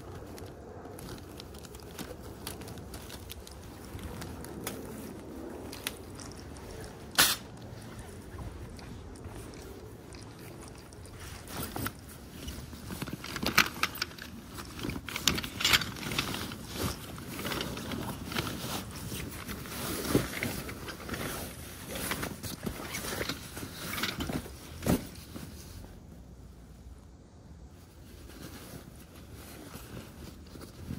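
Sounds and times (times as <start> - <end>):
fabric rustling and scraping: 0.0 - 30.9.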